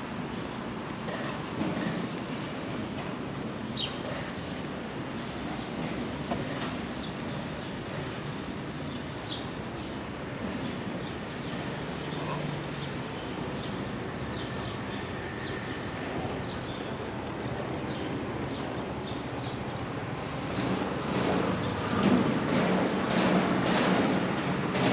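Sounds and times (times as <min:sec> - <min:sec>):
traffic noise: 0:00.0 - 0:24.9.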